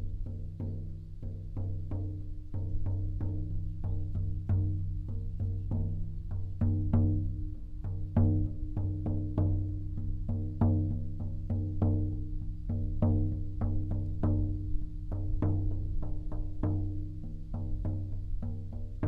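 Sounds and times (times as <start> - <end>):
frame drum beaten: 0.0 - 19.0.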